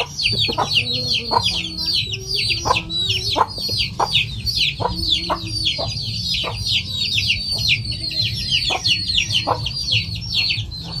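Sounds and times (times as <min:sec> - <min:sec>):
chicks peeping: 0:00.0 - 0:11.0
steady low hum: 0:00.0 - 0:11.0.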